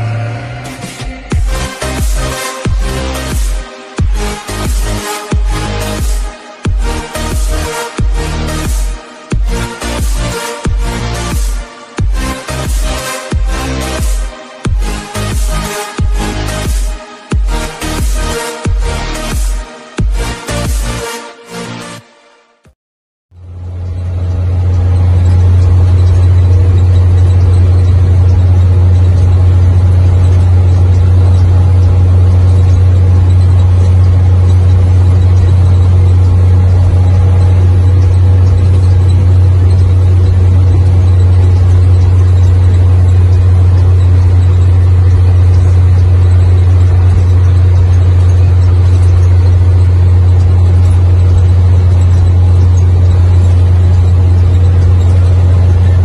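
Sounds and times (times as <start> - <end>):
diesel truck engine droning: 0.0 - 22.0, 23.3 - 56.0.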